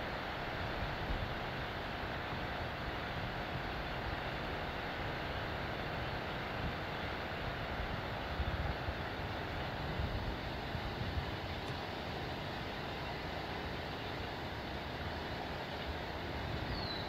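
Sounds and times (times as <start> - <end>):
outdoor background rumble and hiss: 0.0 - 17.0.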